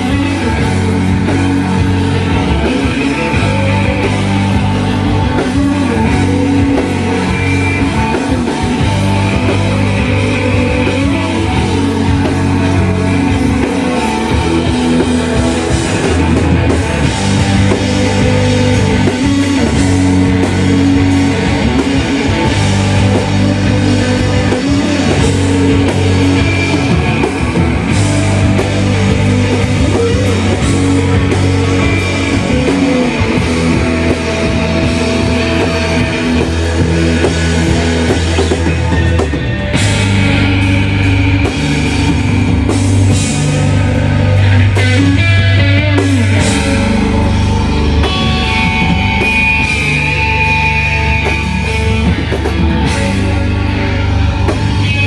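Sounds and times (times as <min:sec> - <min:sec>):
live rock band playing loudly: 0:00.0 - 0:55.0.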